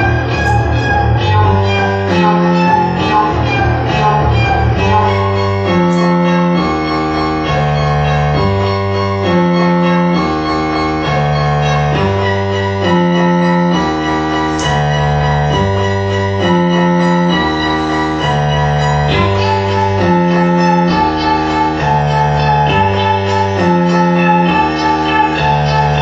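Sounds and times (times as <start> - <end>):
organ-like synthesizer notes: 0.0 - 26.0
steady synth bass: 0.0 - 26.0.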